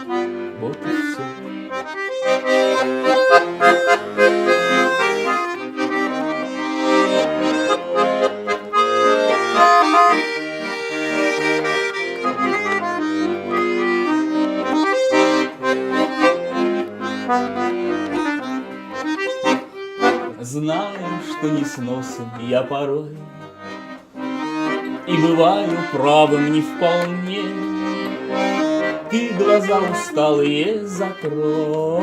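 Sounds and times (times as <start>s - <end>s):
button accordion melody: 0.0s - 32.0s.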